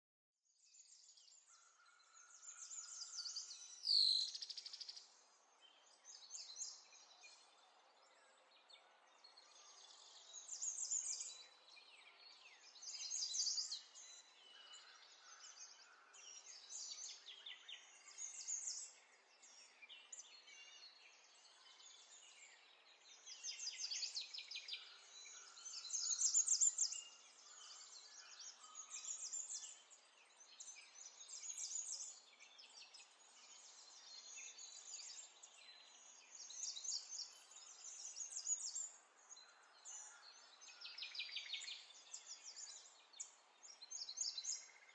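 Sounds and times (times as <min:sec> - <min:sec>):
songbirds chirping and trilling: 0:00.4 - 0:44.9.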